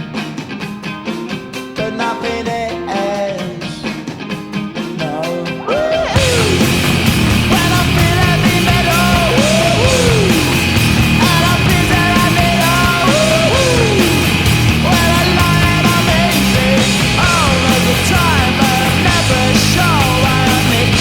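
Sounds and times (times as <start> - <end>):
loud hard rock music: 0.0 - 21.0.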